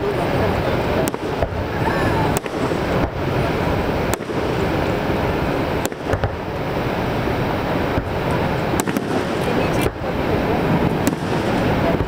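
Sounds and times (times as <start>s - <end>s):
continuous rushing noise: 0.0s - 12.0s
firework bangs: 0.0s - 12.0s.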